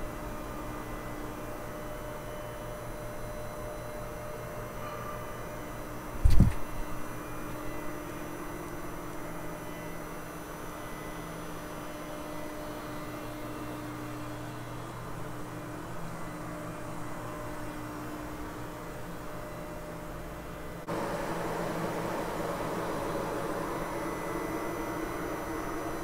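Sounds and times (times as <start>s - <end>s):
machining center humming: 0.0s - 26.0s.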